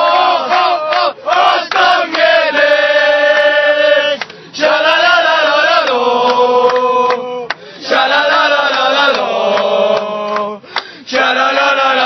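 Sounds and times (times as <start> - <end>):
group singing a chant: 0.0 - 12.0.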